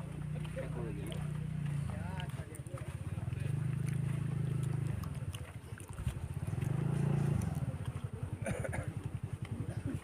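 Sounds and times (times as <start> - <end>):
vehicle engine throbbing: 0.0 - 10.0.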